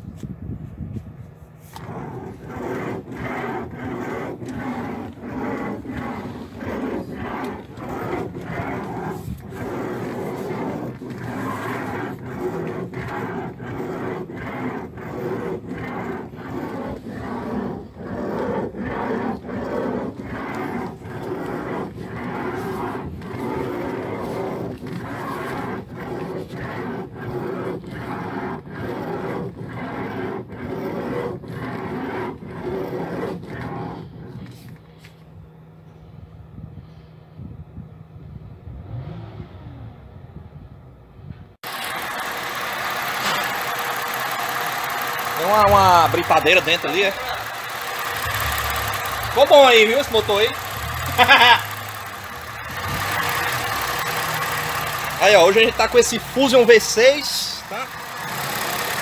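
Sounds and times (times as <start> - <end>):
car engine idling: 1.7 - 35.0, 41.6 - 59.0.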